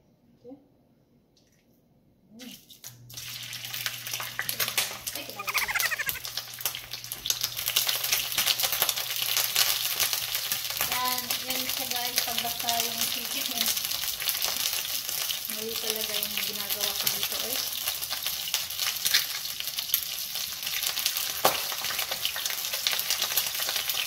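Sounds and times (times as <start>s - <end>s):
chicken frying in oil: 2.4s - 24.0s.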